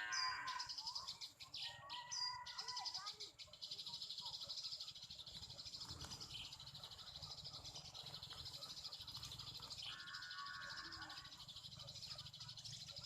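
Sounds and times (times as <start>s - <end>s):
birds chirping rapidly: 0.0s - 13.0s
lower steadier bird call: 0.0s - 13.0s.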